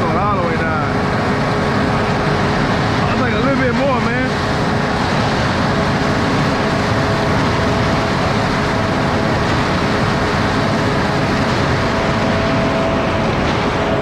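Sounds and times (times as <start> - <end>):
concrete mixer truck running: 0.0 - 14.0
steady whine: 0.0 - 14.0.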